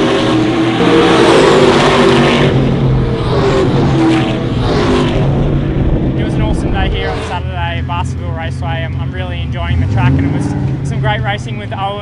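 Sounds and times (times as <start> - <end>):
race cars passing at speed: 0.0 - 12.0.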